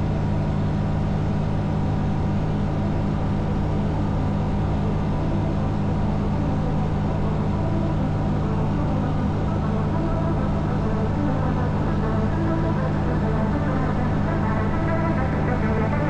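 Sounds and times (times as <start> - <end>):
light aircraft engine drone: 0.0 - 16.0.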